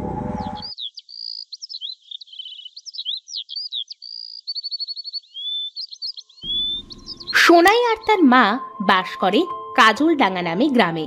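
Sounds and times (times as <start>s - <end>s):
birds chirping and whistling: 0.2s - 9.2s
bird trill: 0.4s - 9.9s.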